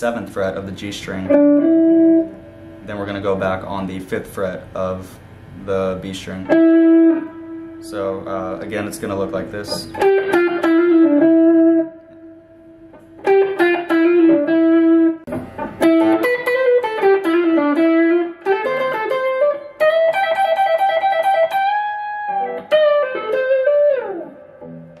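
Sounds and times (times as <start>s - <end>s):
electric guitar lead: 0.0s - 4.2s, 5.7s - 25.0s.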